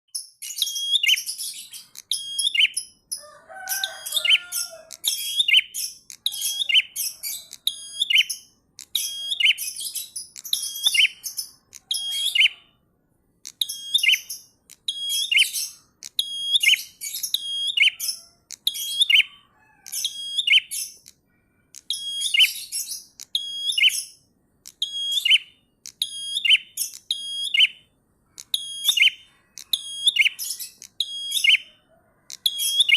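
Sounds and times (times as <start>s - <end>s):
bird singing high phrase: 0.2s - 12.8s, 13.4s - 31.8s.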